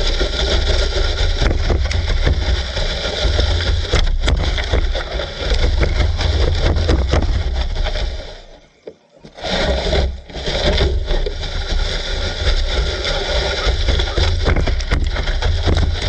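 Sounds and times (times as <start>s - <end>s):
sled scraping over grass: 0.0s - 16.0s.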